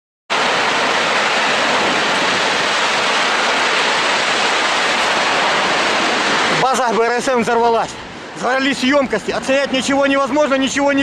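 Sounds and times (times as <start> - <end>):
fire rushing hiss: 0.3 - 11.0.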